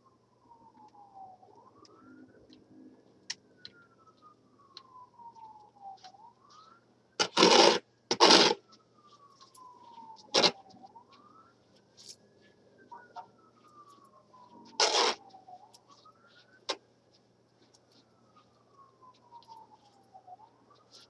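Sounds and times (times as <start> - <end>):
distant siren wailing: 0.0 - 21.0.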